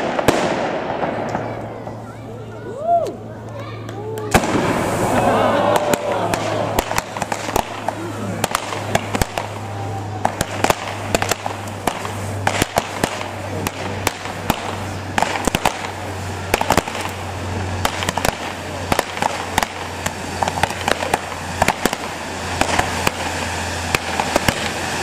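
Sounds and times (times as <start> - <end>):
fireworks popping and crackling: 0.0 - 2.9, 3.5 - 25.0
low hum: 0.0 - 25.0.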